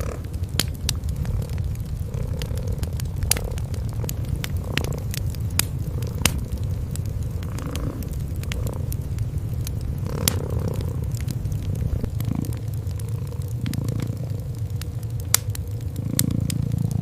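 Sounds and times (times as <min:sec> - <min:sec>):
cats purring: 0:00.0 - 0:17.0
wood fire crackling and popping: 0:00.0 - 0:17.0.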